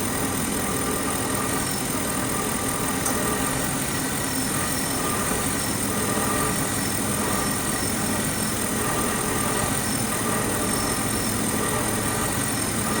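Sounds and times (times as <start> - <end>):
car engine idling: 0.0 - 13.0
thin high-pitched whine: 0.0 - 13.0.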